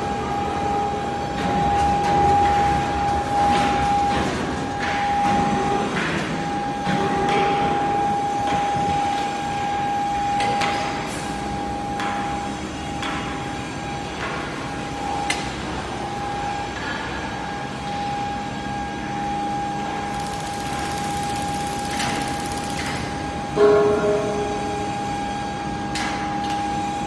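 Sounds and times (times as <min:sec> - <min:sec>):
induction furnace whine: 0:00.0 - 0:27.0.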